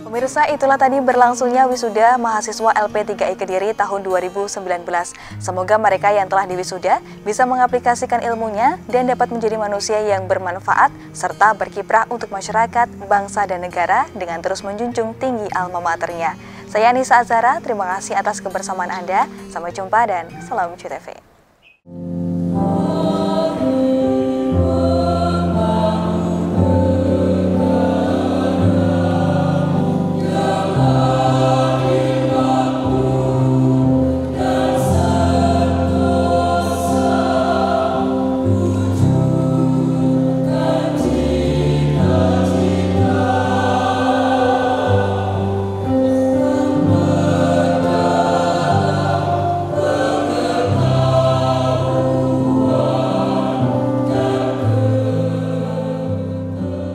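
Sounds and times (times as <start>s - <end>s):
choir singing held chords: 0.0s - 10.6s, 21.8s - 56.9s.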